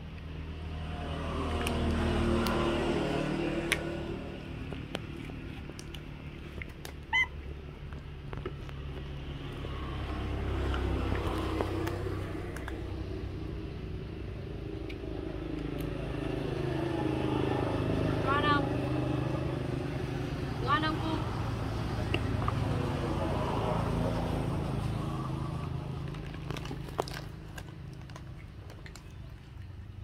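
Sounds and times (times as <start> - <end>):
passing road traffic: 0.0 - 30.0.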